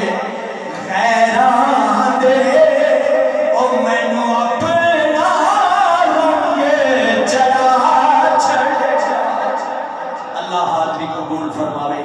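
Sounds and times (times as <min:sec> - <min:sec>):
man singing melodic chant: 0:00.0 - 0:12.0.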